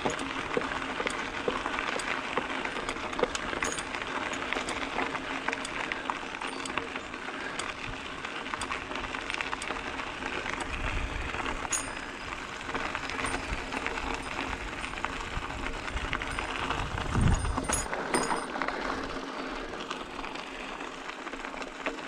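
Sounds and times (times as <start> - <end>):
bike clicks and rattles: 0.0 - 22.0
bike tyres crunching over gravel: 0.0 - 22.0.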